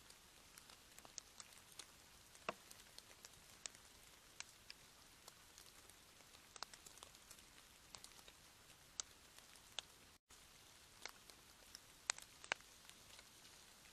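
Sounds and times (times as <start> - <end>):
faint steady hiss: 0.0 - 13.9
raindrops ticking: 0.0 - 13.9.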